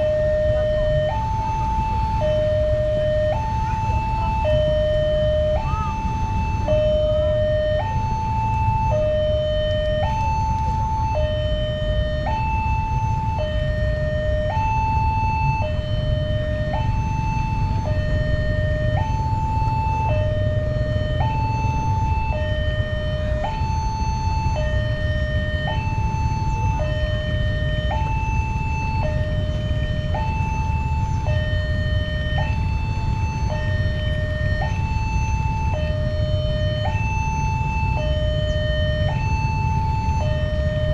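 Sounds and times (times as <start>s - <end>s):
level crossing alarm: 0.0s - 40.9s.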